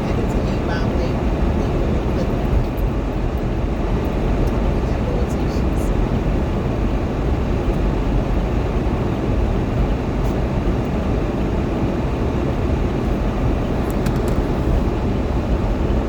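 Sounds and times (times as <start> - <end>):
storm wind blowing: 0.0 - 16.0.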